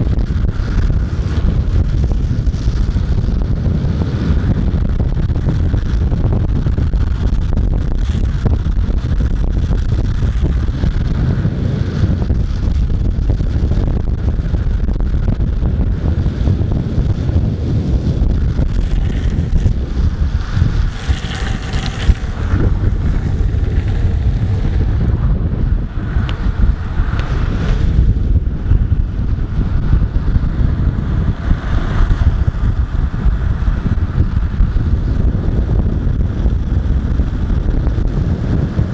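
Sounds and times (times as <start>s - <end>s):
wheels rolling on asphalt: 0.0s - 38.9s
wind buffeting microphone: 0.0s - 38.9s.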